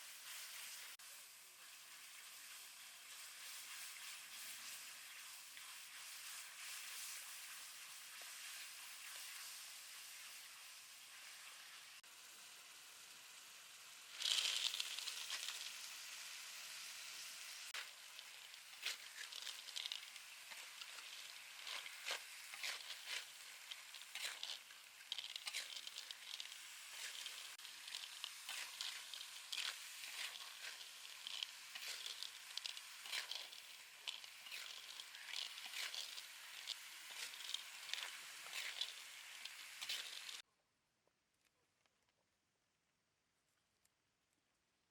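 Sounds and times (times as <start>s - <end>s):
food sizzling in hot oil: 0.0s - 40.4s
oil crackling and popping: 0.0s - 40.4s.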